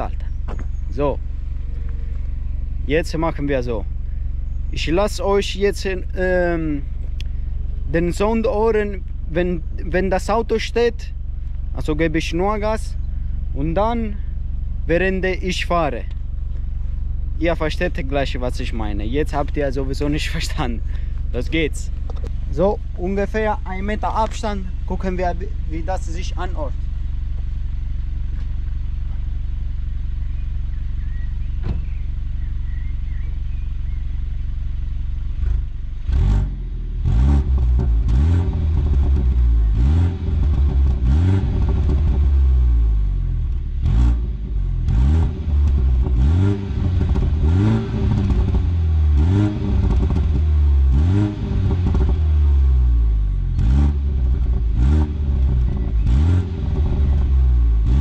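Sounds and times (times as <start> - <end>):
car engine idling and revving: 0.0 - 58.0
exhaust cracks: 0.0 - 58.0.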